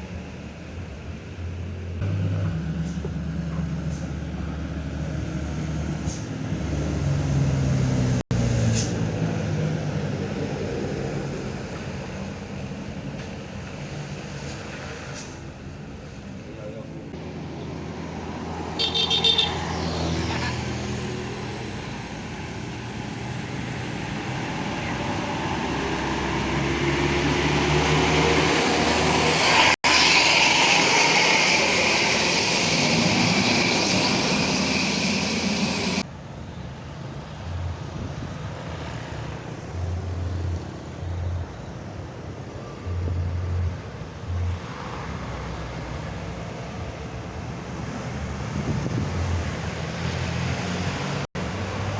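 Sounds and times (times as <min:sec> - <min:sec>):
heavy road traffic passing: 0:00.0 - 0:51.9.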